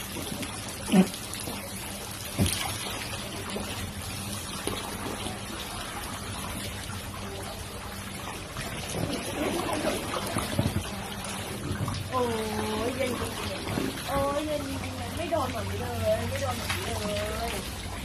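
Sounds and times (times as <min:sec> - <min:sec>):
water running and trickling: 0:00.0 - 0:18.0.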